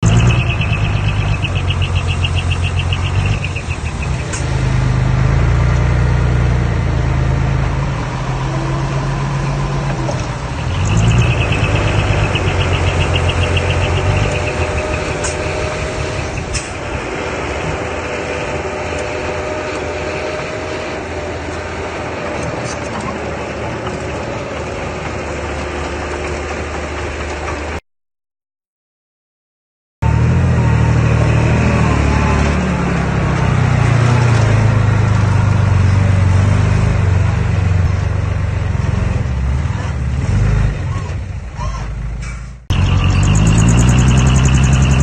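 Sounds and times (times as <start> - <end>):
diesel engine droning: 0.0 - 27.8, 30.0 - 45.0.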